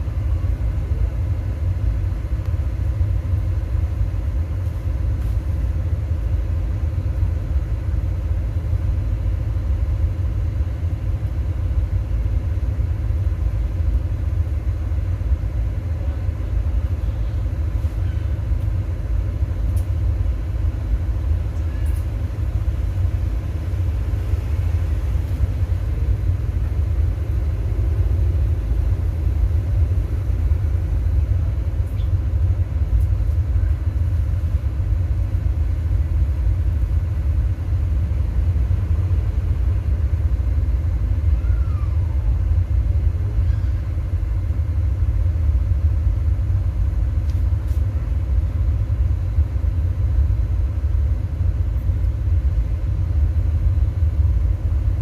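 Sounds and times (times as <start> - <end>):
deep bass rumble from subwoofers: 0.0 - 55.0.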